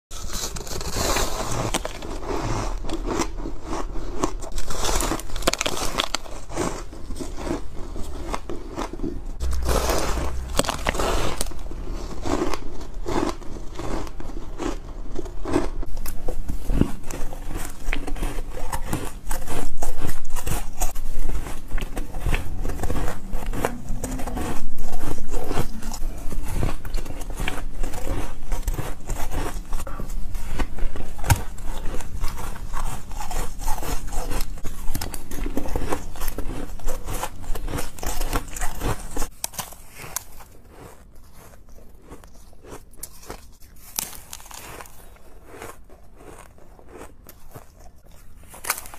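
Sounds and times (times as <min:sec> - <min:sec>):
ice being chewed: 0:00.1 - 0:48.9.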